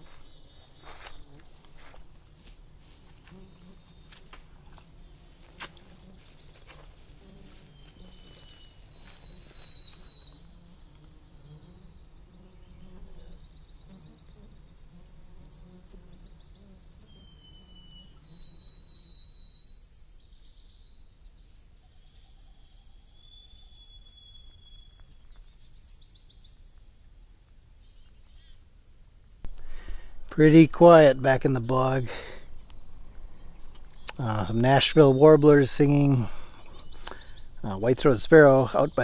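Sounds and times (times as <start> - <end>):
warbler singing: 0.0 - 4.2, 4.8 - 28.6, 29.5 - 39.0.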